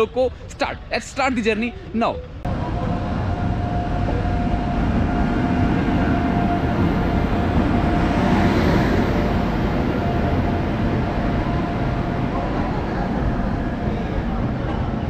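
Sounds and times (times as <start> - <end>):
train wheels rumbling on rails: 2.1 - 15.0.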